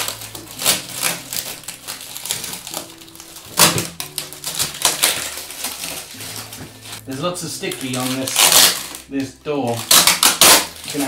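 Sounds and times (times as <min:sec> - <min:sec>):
plastic sheeting crinkling: 0:00.0 - 0:11.0.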